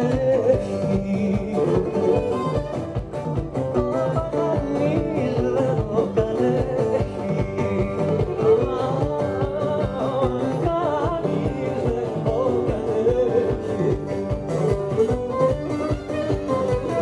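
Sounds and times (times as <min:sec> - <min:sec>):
bass guitar: 0:00.0 - 0:17.0
drum kit steady beat: 0:00.0 - 0:17.0
lute and guitar: 0:00.0 - 0:17.0.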